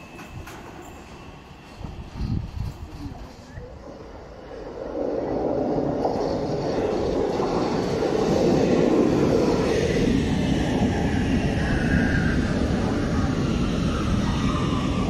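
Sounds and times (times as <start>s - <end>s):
high whine: 0.0s - 15.0s
train wheel and motor rumble: 0.0s - 15.0s.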